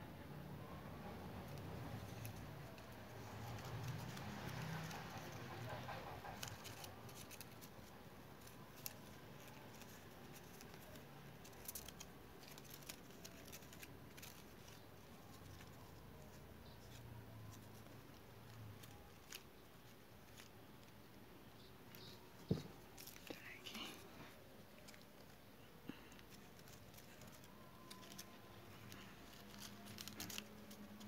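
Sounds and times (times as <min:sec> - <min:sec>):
sharp paper ticks: 0:01.0 - 0:23.9, 0:24.6 - 0:31.0
paper strips rustling and clicking: 0:01.4 - 0:31.0.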